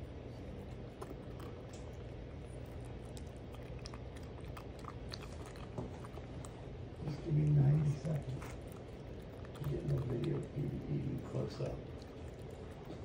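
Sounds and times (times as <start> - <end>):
kitten chewing and smacking: 0.0 - 13.0
low steady hum: 0.0 - 13.0.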